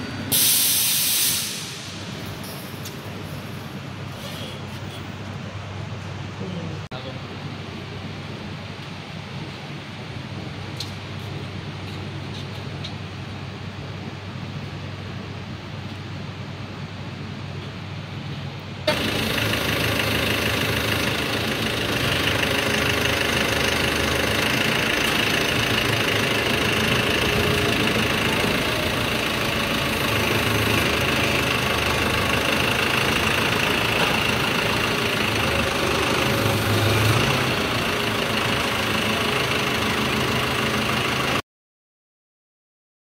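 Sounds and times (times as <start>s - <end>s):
forklift engine running: 0.0s - 41.4s.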